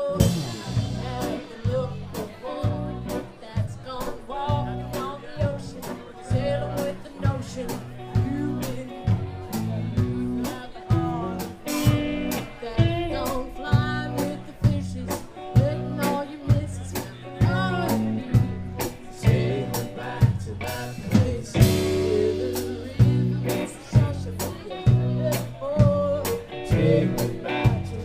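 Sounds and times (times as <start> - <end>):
drum kit beat: 0.0 - 28.0
electric guitar with bent notes: 0.0 - 28.0.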